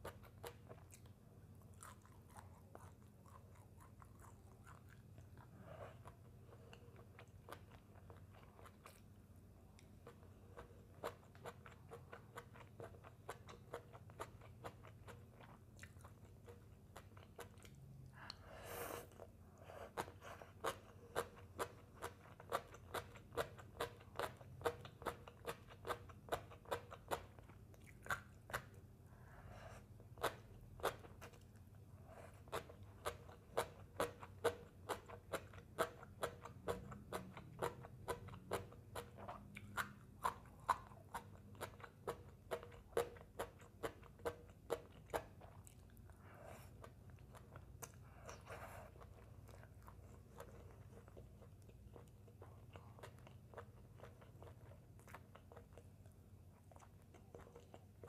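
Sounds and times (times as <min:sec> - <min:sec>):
crunchy chewing of salad: 0:00.0 - 0:58.0.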